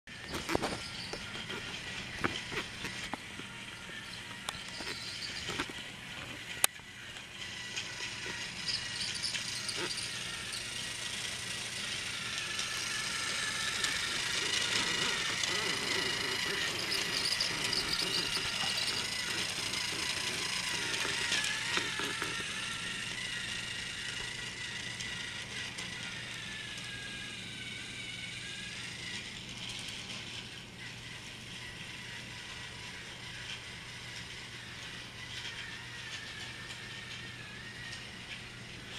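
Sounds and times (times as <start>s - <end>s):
toy train motor whining: 0.1s - 38.9s.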